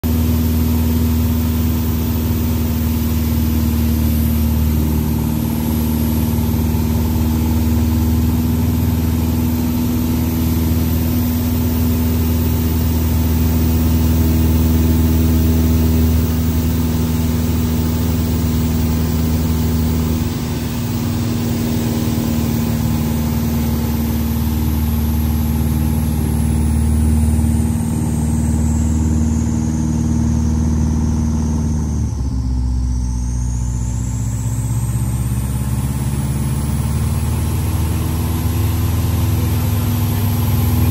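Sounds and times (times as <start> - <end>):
propeller plane engine: 0.0 - 40.9.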